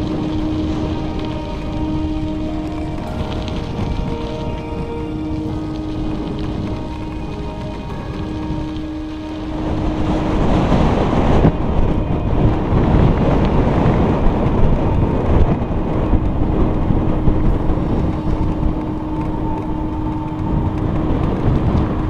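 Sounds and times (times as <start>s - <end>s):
bicycle tyre noise: 0.0s - 22.0s
wind buffeting microphone: 0.0s - 22.0s.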